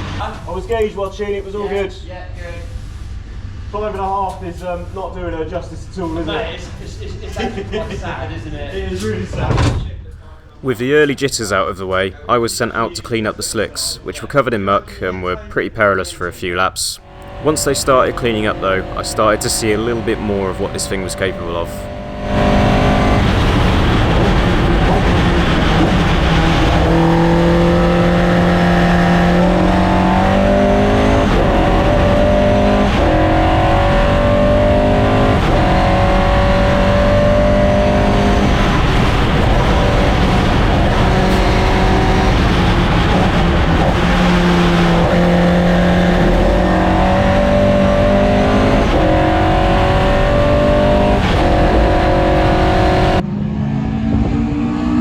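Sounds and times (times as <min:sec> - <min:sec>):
race car engine revving: 0:00.0 - 0:01.6, 0:10.2 - 0:55.0.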